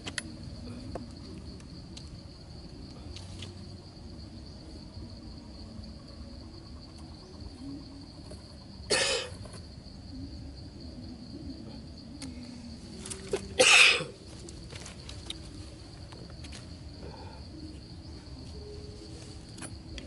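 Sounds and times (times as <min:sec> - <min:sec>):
high-pitched insect trill: 0:00.0 - 0:20.0.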